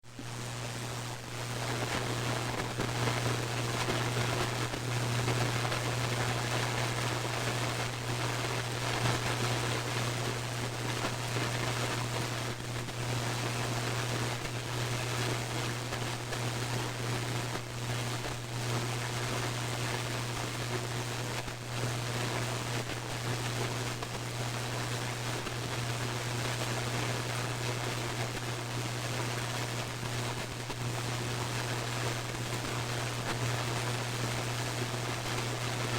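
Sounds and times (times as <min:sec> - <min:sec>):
static crackles: 0:00.1 - 0:35.9
radio static hiss: 0:00.2 - 0:35.9.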